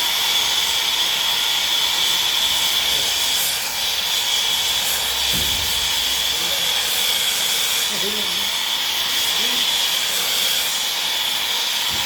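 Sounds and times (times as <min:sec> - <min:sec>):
loud whistling hiss: 0:00.0 - 0:12.0.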